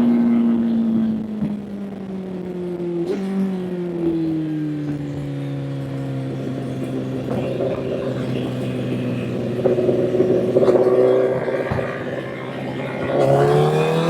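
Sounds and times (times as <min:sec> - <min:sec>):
motorcycle engine on overrun: 0:00.0 - 0:14.0.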